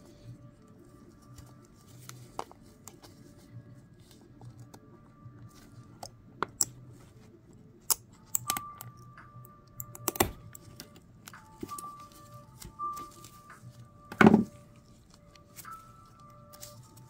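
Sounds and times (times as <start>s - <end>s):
faint lo-fi music: 0.0s - 17.0s.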